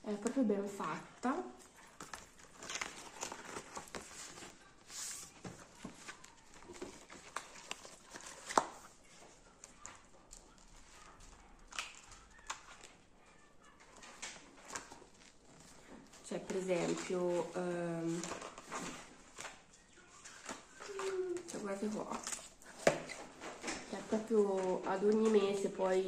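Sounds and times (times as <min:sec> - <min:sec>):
paper pages rustling: 0:01.6 - 0:13.1, 0:13.7 - 0:26.0.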